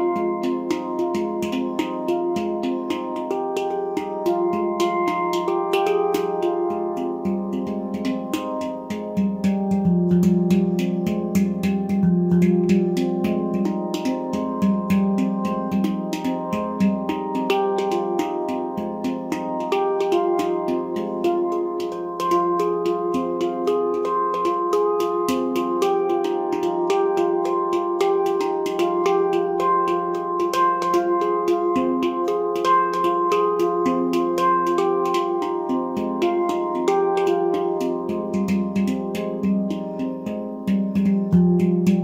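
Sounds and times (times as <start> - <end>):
handpan melody: 0.0 - 42.0.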